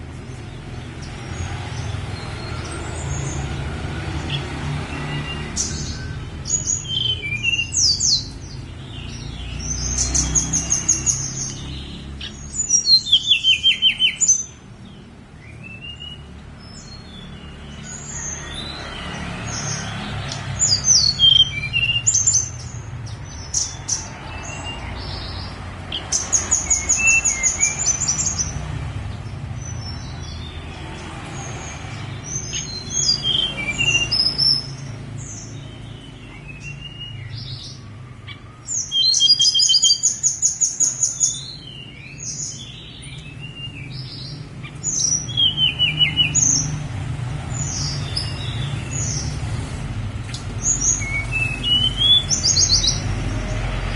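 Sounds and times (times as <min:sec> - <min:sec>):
bird singing whistles and trills: 0:00.3 - 0:28.6, 0:31.4 - 0:46.8, 0:47.5 - 0:49.4, 0:50.6 - 0:53.5.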